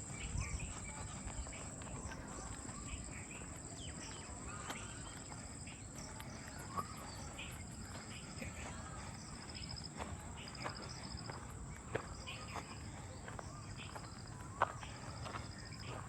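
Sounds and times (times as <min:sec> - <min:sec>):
bird chirps: 0:00.0 - 0:16.0
insects droning and trilling: 0:00.0 - 0:16.0.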